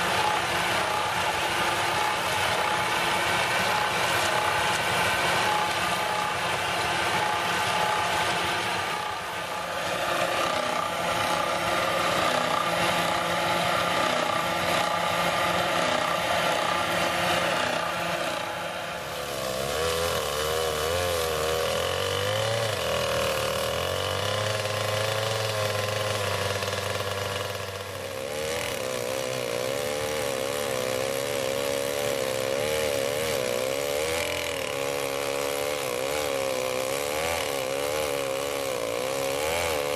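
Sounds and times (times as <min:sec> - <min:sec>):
chainsaw sawing log: 0:00.0 - 0:39.9
circular saw cutting timber: 0:00.0 - 0:39.9.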